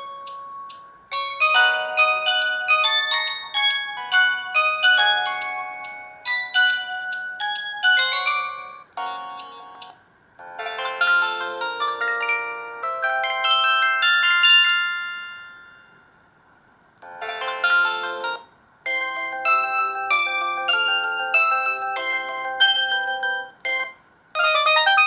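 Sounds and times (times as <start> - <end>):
phone ringtone melody: 0.0 - 16.1, 17.0 - 25.0.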